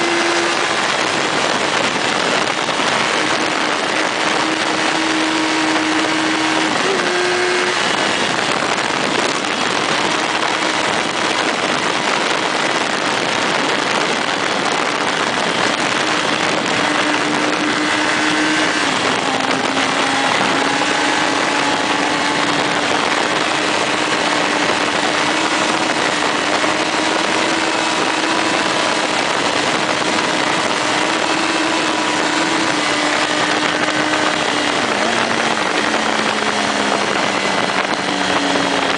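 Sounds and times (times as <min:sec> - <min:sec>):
motorcycle engine cruising: 0:00.0 - 0:38.9
wind on microphone: 0:00.0 - 0:38.9.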